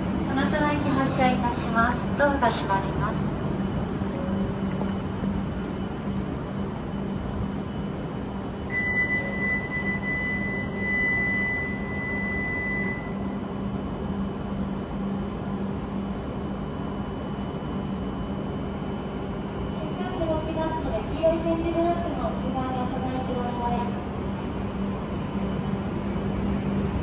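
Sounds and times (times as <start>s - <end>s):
low hum of train: 0.0s - 27.0s.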